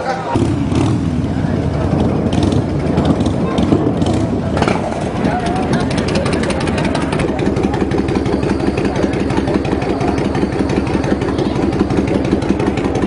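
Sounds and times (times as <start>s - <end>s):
motorcycle engine idling: 0.3s - 13.0s.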